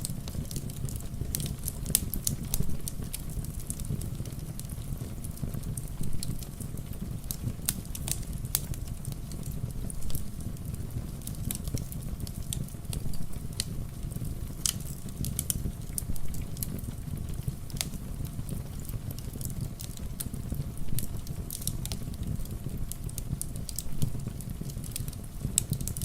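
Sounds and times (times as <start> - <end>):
fire crackling and popping: 0.0 - 26.0
rain rumble: 0.0 - 26.0.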